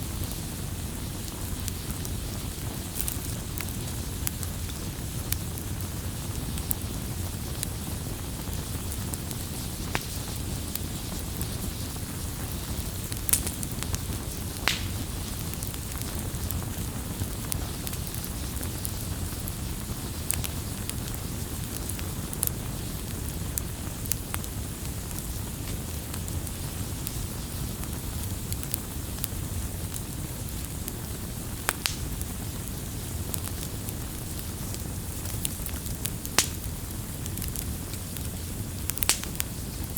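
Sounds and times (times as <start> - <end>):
campfire rumble: 0.0 - 39.9
fire crackles and pops: 0.0 - 39.9.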